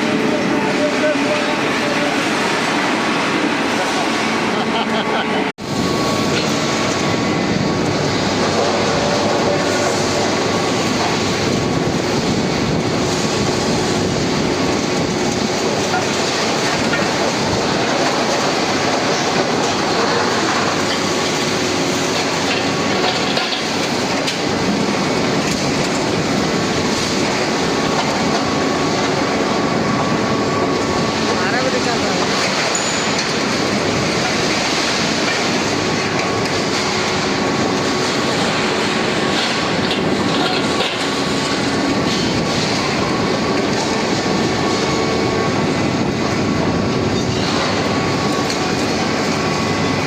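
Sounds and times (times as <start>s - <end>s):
machine running loudly: 0.0s - 50.0s.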